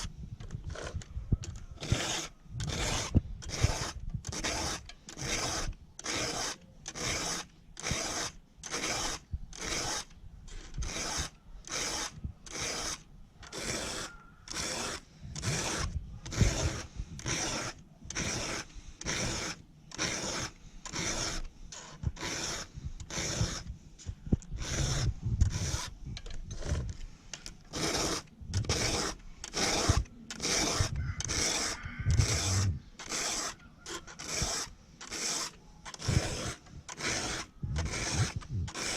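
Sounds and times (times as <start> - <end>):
file sharpening chainsaw chain: 0.7 - 23.6, 24.6 - 38.9.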